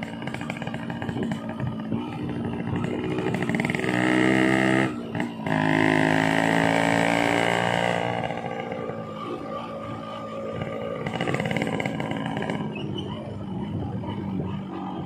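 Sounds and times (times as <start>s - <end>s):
small motorcycle engine under load: 0.0s - 15.0s.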